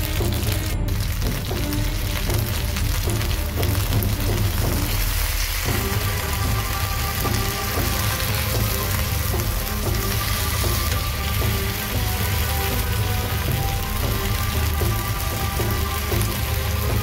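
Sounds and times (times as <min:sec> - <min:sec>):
background music: 0:00.0 - 0:17.0
chicken sizzling on grill pan: 0:00.0 - 0:17.0.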